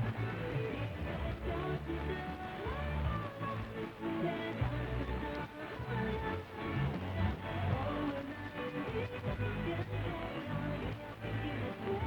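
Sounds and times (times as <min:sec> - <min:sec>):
music over shortwave radio: 0:00.0 - 0:12.0.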